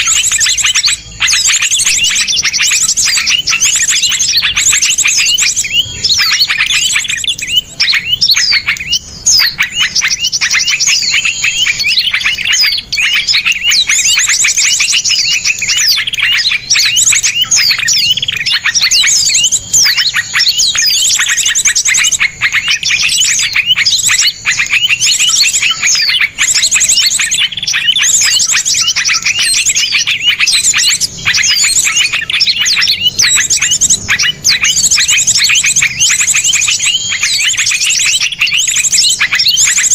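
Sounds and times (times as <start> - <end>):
songbirds calling and trilling: 0.0 - 39.9.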